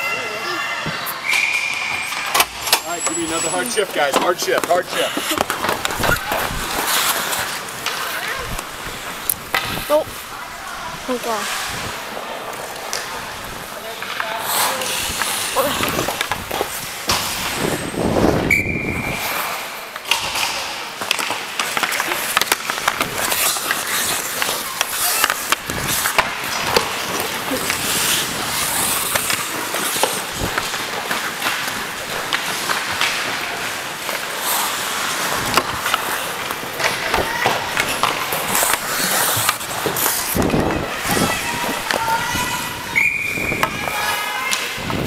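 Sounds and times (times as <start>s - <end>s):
skates scraping ice: 0.0s - 45.0s.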